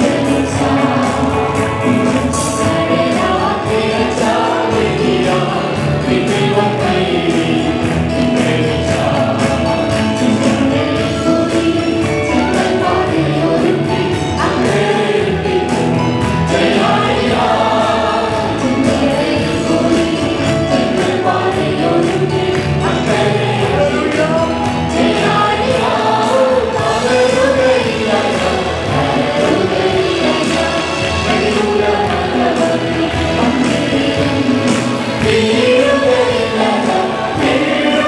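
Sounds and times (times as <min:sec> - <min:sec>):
choir singing gospel: 0:00.0 - 0:38.0
instrumental accompaniment: 0:00.0 - 0:38.0
percussion beat: 0:00.0 - 0:38.0.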